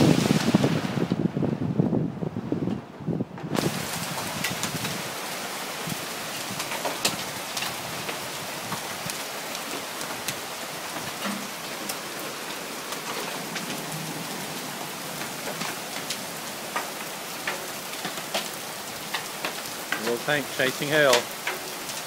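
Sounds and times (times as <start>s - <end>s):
heavy rain downpour: 0.0s - 22.0s
hailstones striking surfaces: 3.6s - 22.0s.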